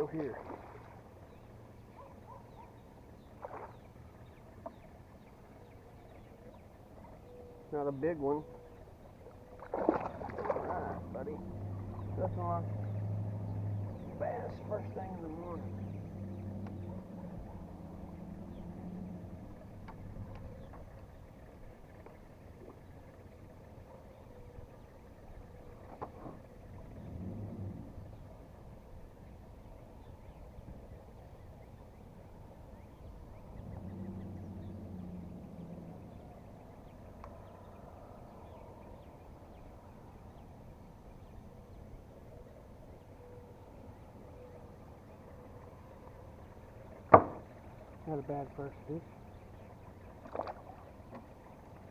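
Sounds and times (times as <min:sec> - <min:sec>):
distant engine humming: 0:00.0 - 0:51.9
faint lake ambience: 0:00.0 - 0:51.9.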